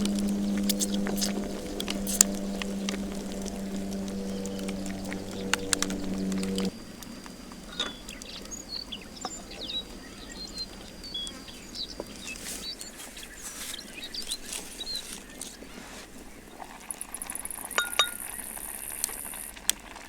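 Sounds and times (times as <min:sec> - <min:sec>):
low steady hum: 0:00.0 - 0:19.6
small birds chirping: 0:00.0 - 0:19.6.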